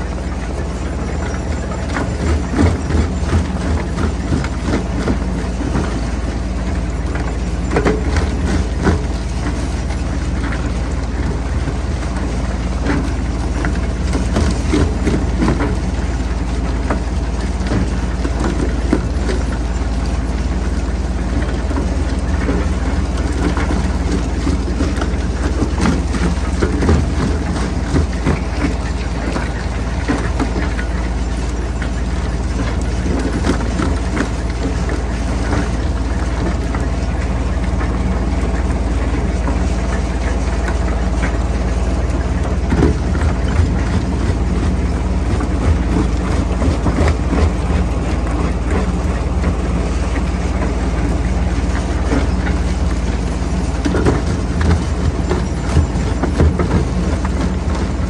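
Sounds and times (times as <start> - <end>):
jaw crusher droning: 0.0 - 58.0.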